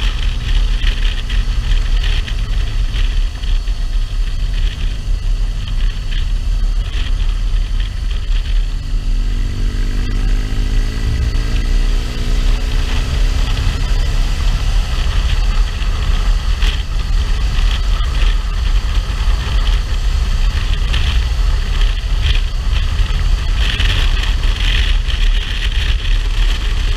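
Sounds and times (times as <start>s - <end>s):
motorcycle engine running: 0.0s - 26.9s
wind rush on microphone: 0.0s - 26.9s.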